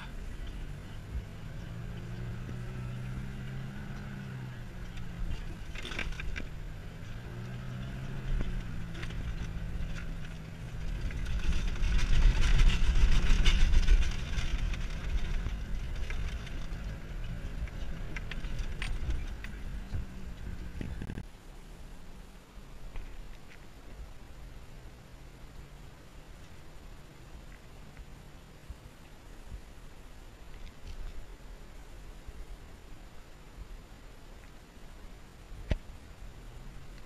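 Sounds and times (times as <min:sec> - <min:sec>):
vehicle engine driving on sand: 0:00.0 - 0:37.0.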